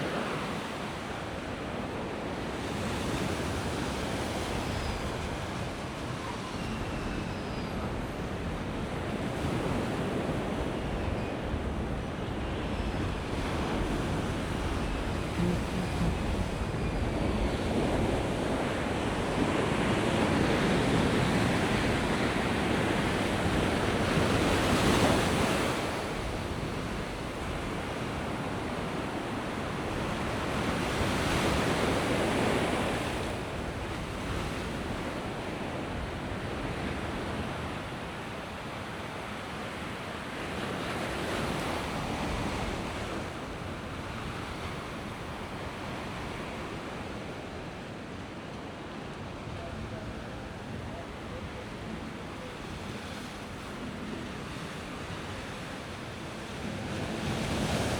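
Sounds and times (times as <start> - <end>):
waves breaking on shore: 0.0 - 57.9.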